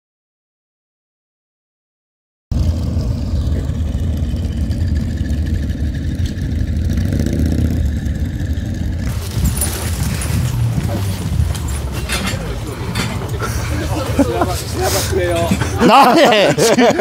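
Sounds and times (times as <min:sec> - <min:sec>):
motorcycle engines rumbling: 0:02.5 - 0:17.0.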